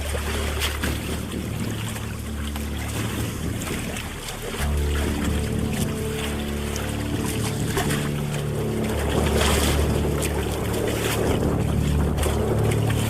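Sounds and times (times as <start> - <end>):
background music with low notes: 0.0 - 13.0
water noise: 0.0 - 13.0
wind: 0.0 - 13.0.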